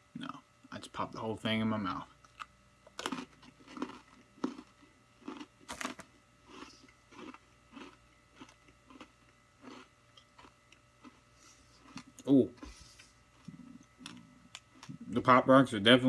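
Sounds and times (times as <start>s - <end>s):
cookie crunching chews: 2.2s - 15.2s.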